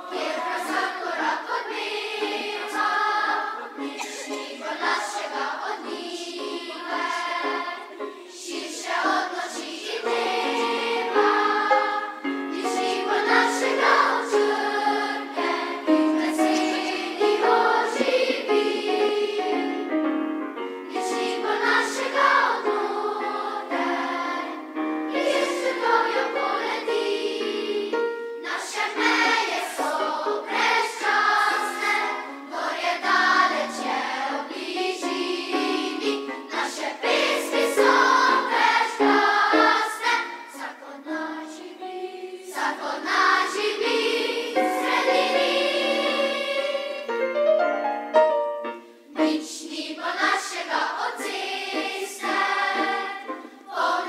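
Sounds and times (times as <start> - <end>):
children's choir singing: 0.0 - 48.1, 49.0 - 54.0.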